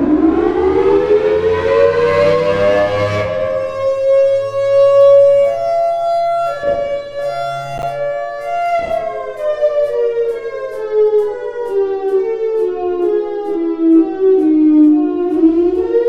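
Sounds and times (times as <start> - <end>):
siren steady tone: 0.0 - 16.0.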